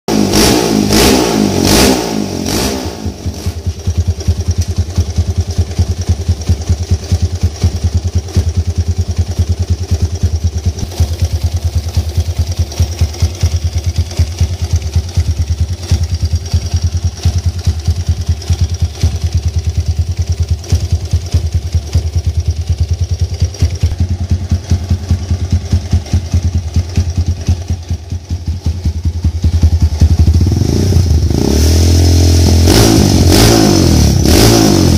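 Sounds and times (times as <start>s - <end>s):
motorcycle engine revving and idling: 0.1s - 34.9s.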